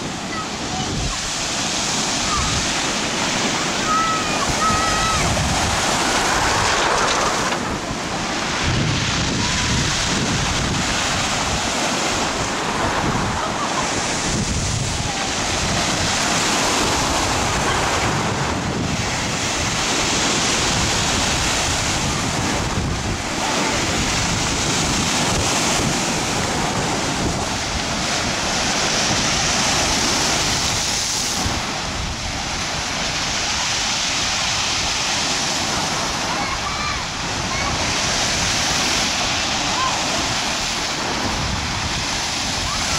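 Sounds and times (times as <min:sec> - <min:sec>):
sea surf breaking on beach: 0:00.0 - 0:42.9
wind buffeting microphone: 0:00.0 - 0:42.9.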